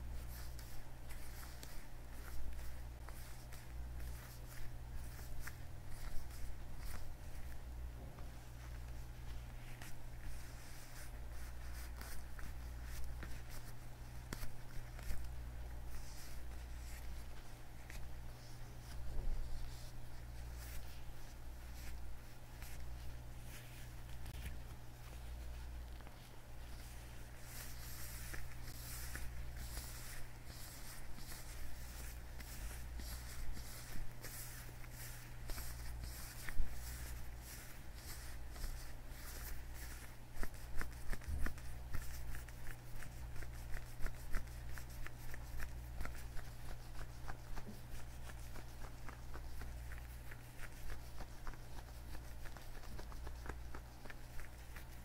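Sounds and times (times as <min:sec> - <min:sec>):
steady low hum: 0:00.0 - 0:55.0
leather gloves rubbing and creaking: 0:08.5 - 0:55.0.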